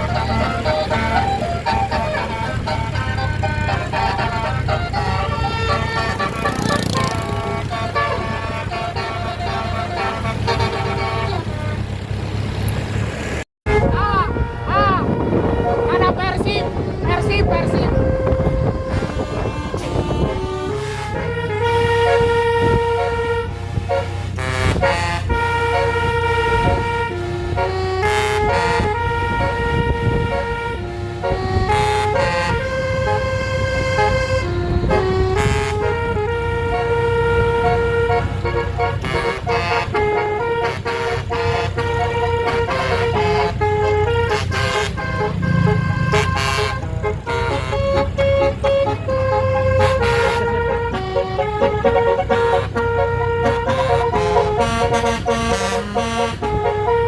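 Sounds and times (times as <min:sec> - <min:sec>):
musical air horn playing tune: 0:00.0 - 0:12.0, 0:13.6 - 0:57.0
bus engine rumble: 0:00.0 - 0:57.0.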